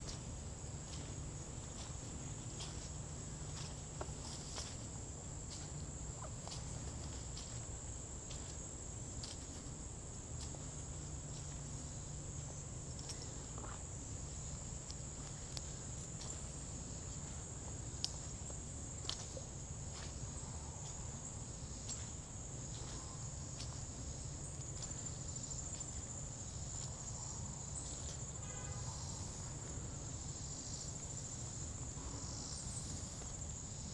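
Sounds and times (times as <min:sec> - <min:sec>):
footsteps on forest trail: 0:00.0 - 0:30.1
insect chorus: 0:00.0 - 0:33.9.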